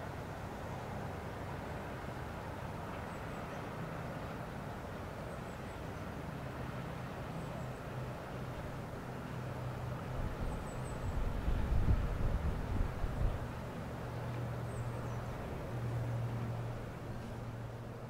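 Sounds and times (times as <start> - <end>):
distant traffic: 0.0 - 18.0.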